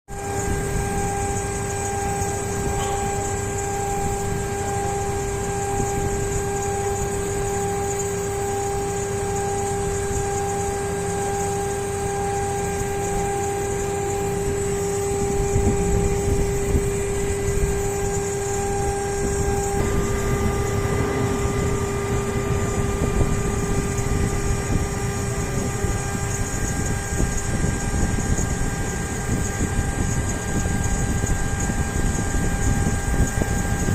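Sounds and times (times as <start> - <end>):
cnc machine whine: 0.1 - 33.9.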